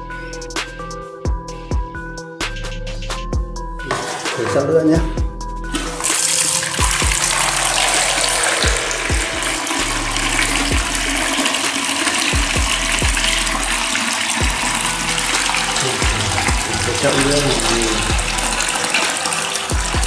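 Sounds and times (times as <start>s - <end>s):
music with deep bass beat: 0.0s - 6.2s, 6.8s - 20.0s
water running: 3.8s - 20.0s.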